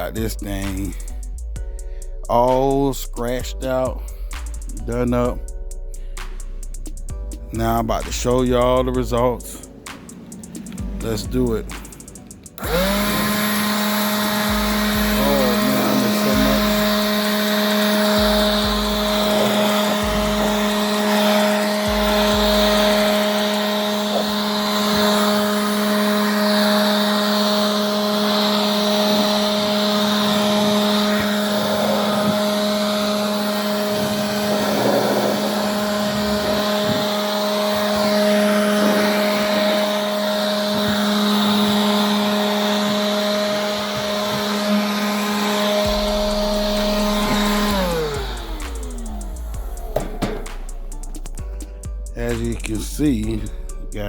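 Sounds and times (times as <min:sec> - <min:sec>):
small electric motor whine: 0:08.3 - 0:54.0.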